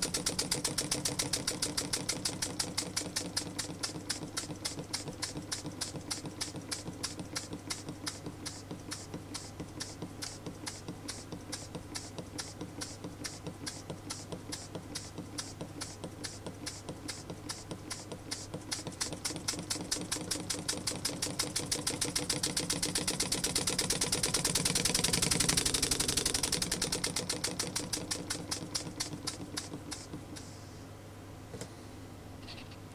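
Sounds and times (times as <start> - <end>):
model air engine ticking: 0.0 - 30.5.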